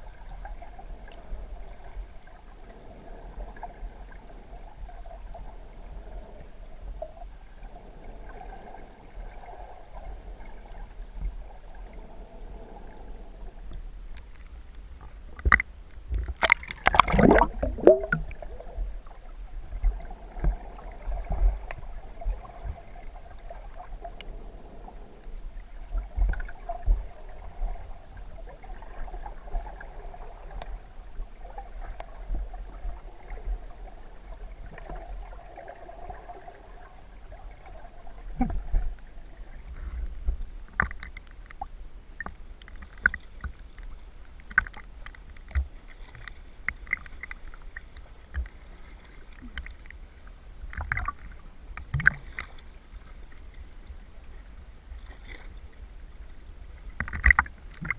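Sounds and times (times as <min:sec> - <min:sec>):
water splashing and bubbling: 0:00.0 - 0:55.8, 0:56.7 - 0:57.9.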